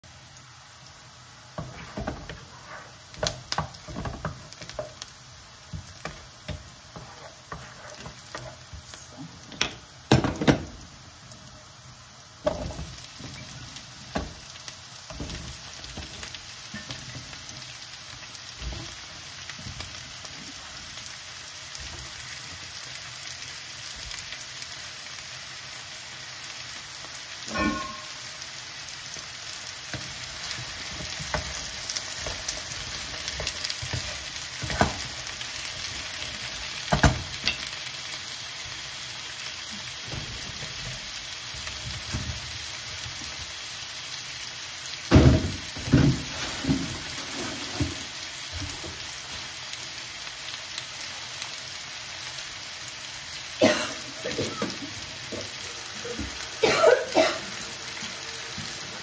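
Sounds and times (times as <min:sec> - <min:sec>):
onions sizzling in a frying pan: 0:00.0 - 0:59.0.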